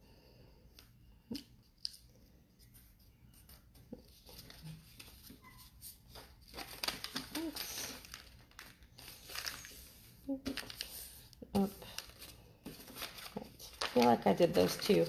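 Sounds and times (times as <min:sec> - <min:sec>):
paper being folded: 0:02.6 - 0:15.0.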